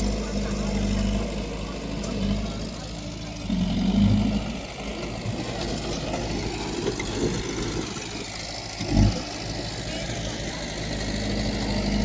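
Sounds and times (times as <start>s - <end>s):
diesel machinery engine running: 0.0s - 12.0s.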